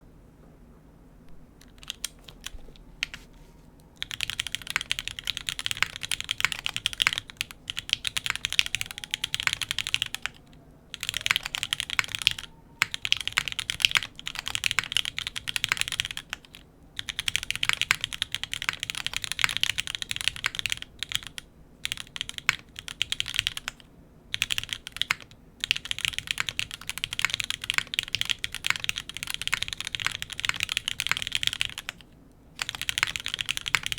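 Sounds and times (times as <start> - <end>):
mechanical keyboard typing: 1.6 - 3.3, 4.0 - 33.9.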